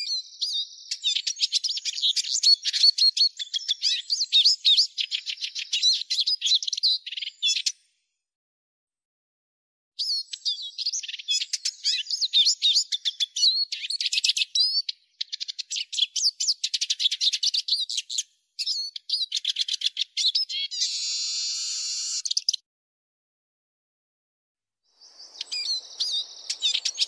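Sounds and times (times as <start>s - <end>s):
bird twittering and trilling: 0.0s - 7.8s, 10.0s - 22.6s, 25.0s - 27.0s.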